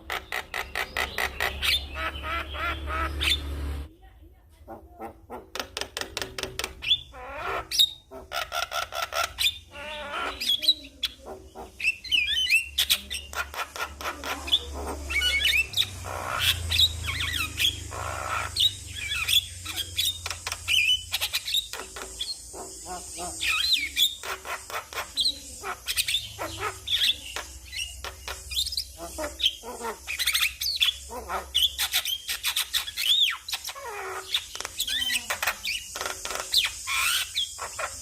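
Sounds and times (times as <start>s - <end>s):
bird singing varied song: 0.0s - 3.9s, 5.3s - 38.0s.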